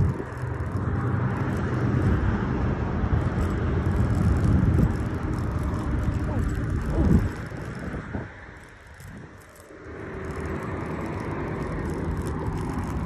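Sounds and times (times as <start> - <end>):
cars and trucks passing: 0.0 - 13.0
road traffic rumble: 0.0 - 13.0.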